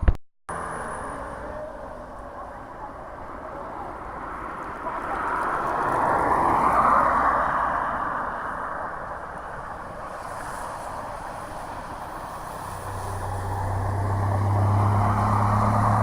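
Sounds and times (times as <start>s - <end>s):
road vehicle passing by: 0.5s - 16.0s.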